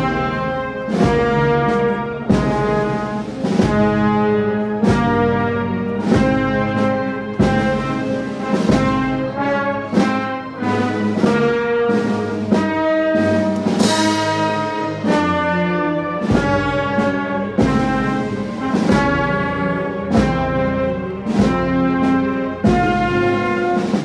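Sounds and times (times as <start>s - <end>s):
brass band playing slow march: 0.0s - 24.0s
heavy drum beat: 0.0s - 24.0s.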